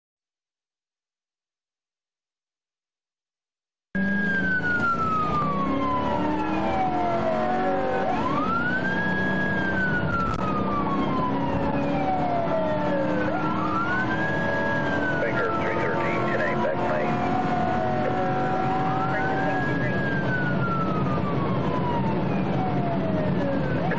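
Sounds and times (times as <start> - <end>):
car engine and road noise: 4.0 - 23.9
police siren wailing: 4.0 - 23.9.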